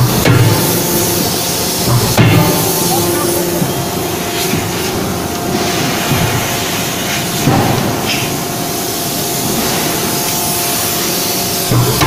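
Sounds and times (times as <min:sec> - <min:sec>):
machinery hissing: 0:00.0 - 0:12.0
machinery humming: 0:00.0 - 0:12.0.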